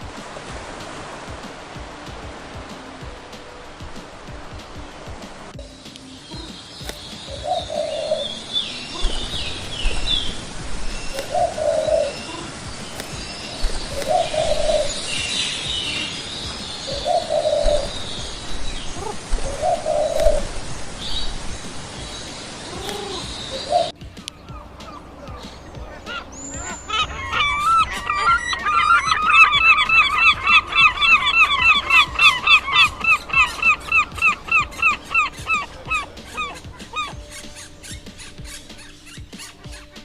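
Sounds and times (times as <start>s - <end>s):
small songbirds chirping: 0.0s - 40.0s
pigeon cooing: 1.3s - 40.0s.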